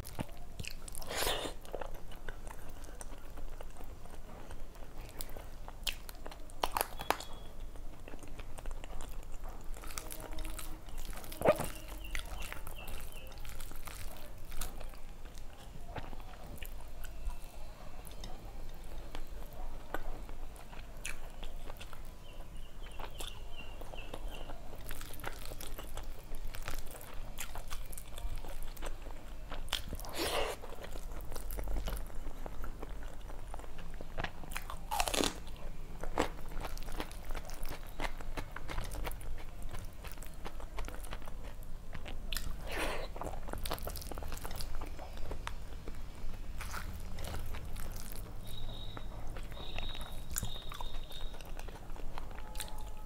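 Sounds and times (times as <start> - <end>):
person chewing and lip smacking: 0.0 - 53.0.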